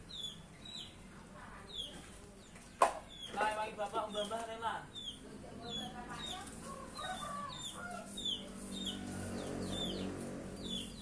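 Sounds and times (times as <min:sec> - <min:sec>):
bulbul singing: 0:00.0 - 0:11.0.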